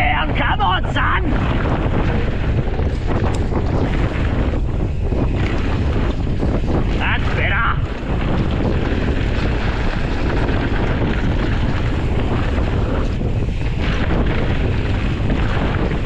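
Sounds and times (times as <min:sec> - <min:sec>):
bike tyres on dirt trail: 0:00.0 - 0:16.0
wind buffeting microphone: 0:00.0 - 0:16.0.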